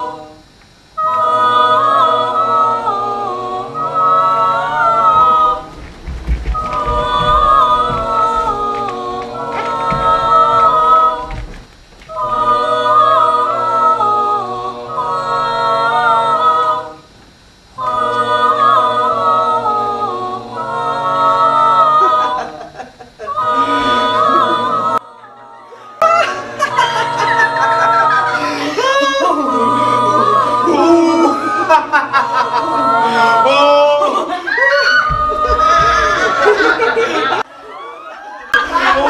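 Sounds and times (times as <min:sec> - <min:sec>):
a cappella voices singing: 0:00.0 - 0:37.8, 0:38.4 - 0:39.0.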